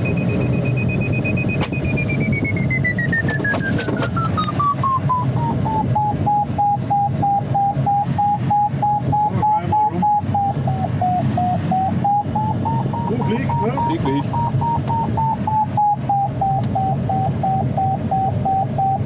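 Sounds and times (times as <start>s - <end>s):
variometer short beeps: 0.0s - 19.0s
variometer tone sliding down: 0.0s - 19.0s.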